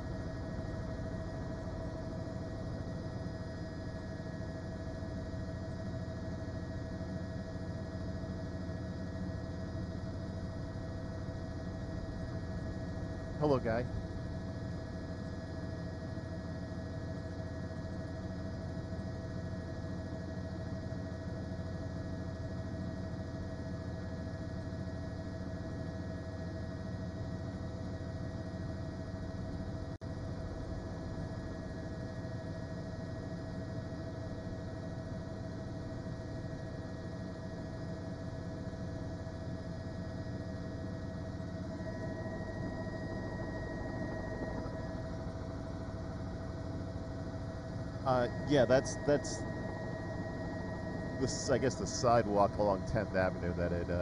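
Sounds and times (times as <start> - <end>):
helicopter cabin hum: 0.0 - 21.6, 24.8 - 54.0.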